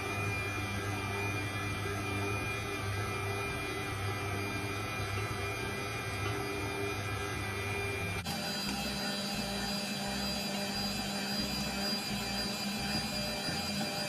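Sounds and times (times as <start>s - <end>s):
stand mixer motor hum: 0.0s - 14.0s.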